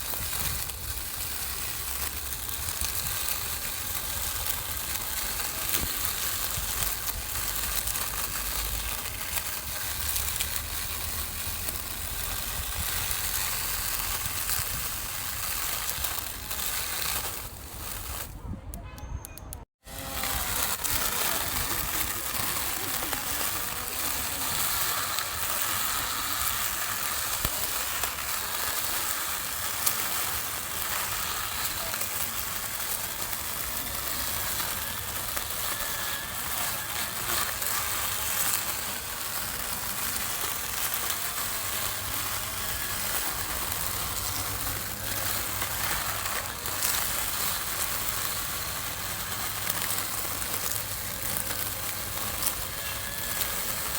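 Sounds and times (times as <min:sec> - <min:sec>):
lawn mower cutting grass: 0:00.0 - 0:18.4, 0:19.7 - 0:53.9.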